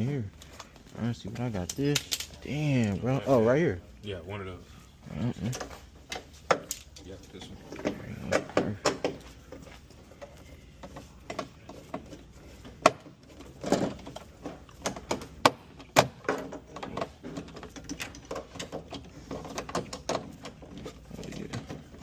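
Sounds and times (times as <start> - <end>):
sharp clicks and knocks of parts: 0.4 - 2.4, 5.5 - 9.6, 10.2 - 22.0.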